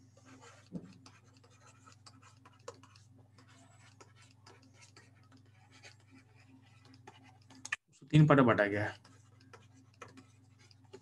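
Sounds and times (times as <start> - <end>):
stylus scratching on tablet screen: 0.0 - 11.0.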